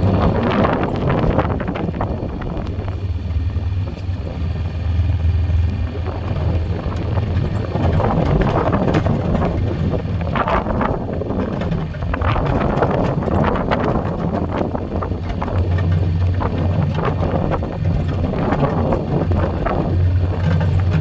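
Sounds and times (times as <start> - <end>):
atv engine running: 0.0 - 21.0
wind rushing on microphone: 0.0 - 21.0.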